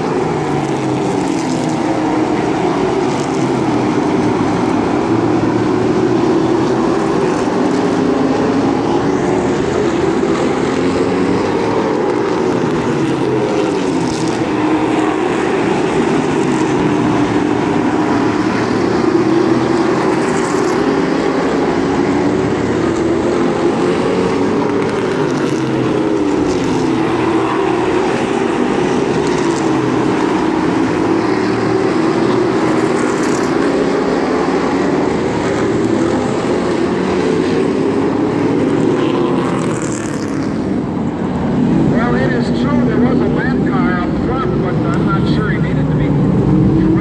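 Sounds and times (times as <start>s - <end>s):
race car engines droning: 0.0s - 47.0s.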